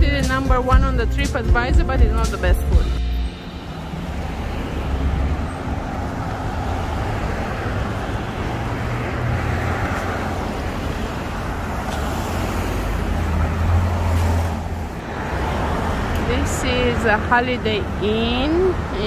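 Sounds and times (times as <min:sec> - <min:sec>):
cars driving past: 0:02.1 - 0:19.0.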